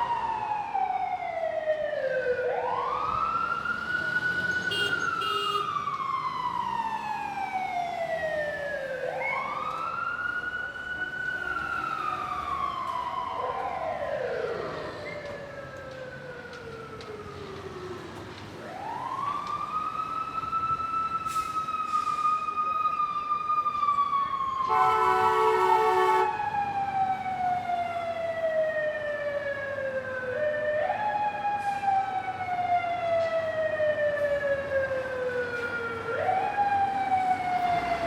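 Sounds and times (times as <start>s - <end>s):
fire truck siren wailing: 0.0s - 38.0s.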